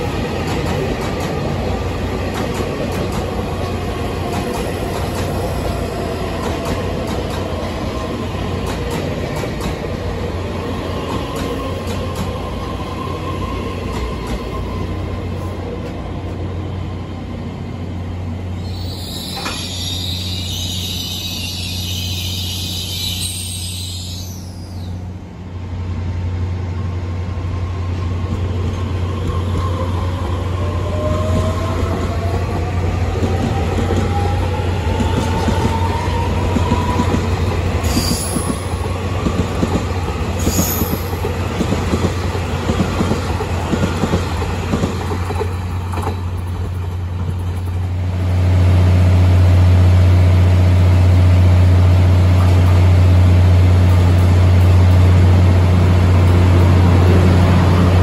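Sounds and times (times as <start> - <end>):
train wheel noise: 0.0 - 24.5, 25.3 - 58.0
train pulling in humming: 0.0 - 58.0.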